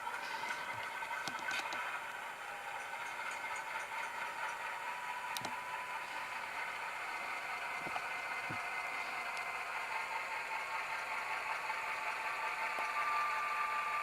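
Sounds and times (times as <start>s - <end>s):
tinny engine drone from speaker: 0.0s - 14.0s.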